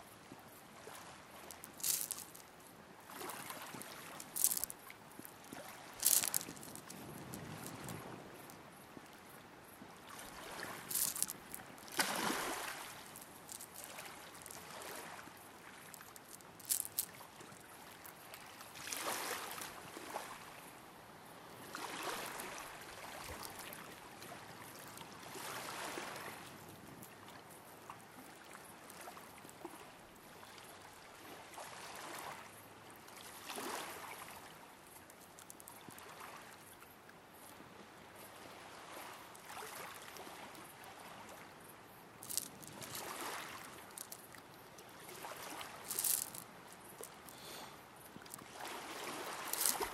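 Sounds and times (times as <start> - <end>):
waves lapping on stony shore: 0.6 - 20.7, 21.6 - 27.1, 28.2 - 36.7, 38.3 - 41.5, 42.2 - 49.9.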